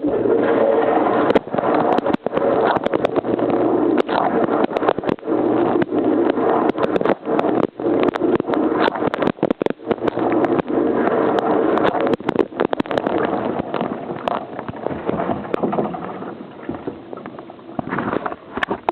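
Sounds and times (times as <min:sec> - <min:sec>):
wash pump humming: 0:00.0 - 0:18.9
water jets clicking and pattering: 0:00.0 - 0:18.9.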